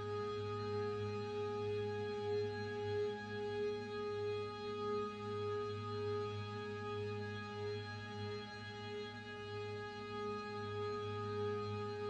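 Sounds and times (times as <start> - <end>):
ambient music with held tones: 0.0 - 12.0.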